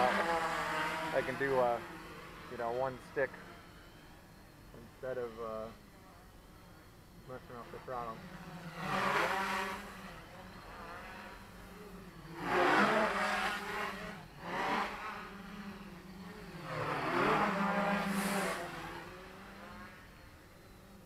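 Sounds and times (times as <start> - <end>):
quadcopter buzzing: 0.0 - 21.0.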